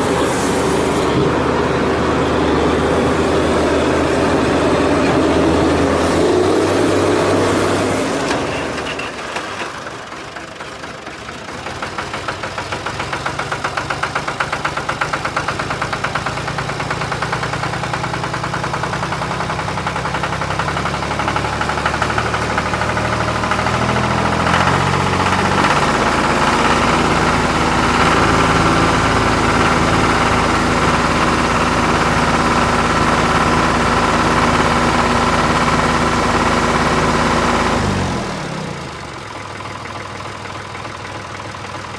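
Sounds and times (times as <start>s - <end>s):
engine running with fast pulse: 0.0s - 41.9s.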